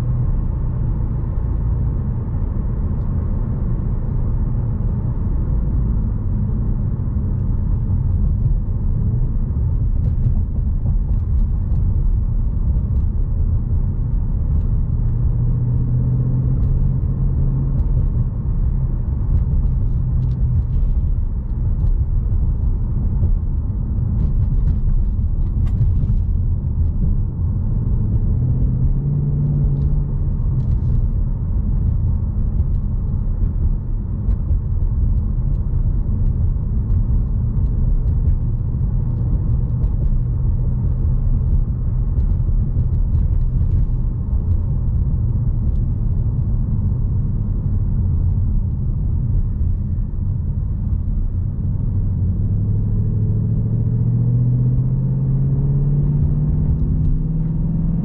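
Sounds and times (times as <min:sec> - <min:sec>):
car engine running at low revs: 0:00.0 - 0:58.0
road and tyre rumble: 0:00.0 - 0:58.0.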